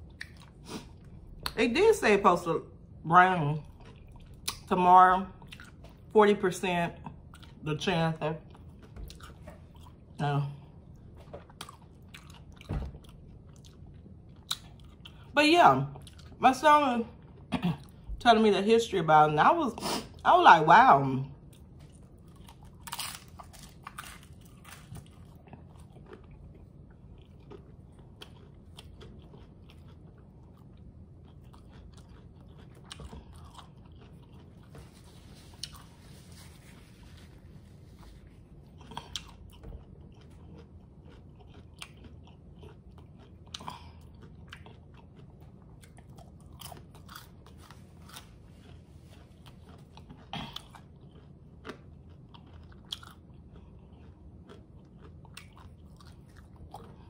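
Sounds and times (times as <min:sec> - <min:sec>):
person chewing crunchy tacos: 0:00.0 - 0:01.6, 0:02.7 - 0:06.1, 0:07.0 - 0:07.6, 0:08.4 - 0:16.4, 0:17.0 - 0:18.1, 0:21.3 - 0:57.0.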